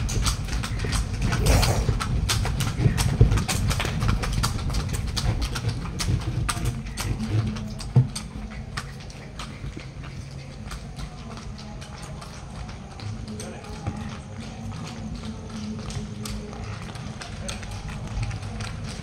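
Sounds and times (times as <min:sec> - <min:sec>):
cart rumbling: 0:00.0 - 0:19.0
hooves clopping on pavement: 0:00.0 - 0:19.0.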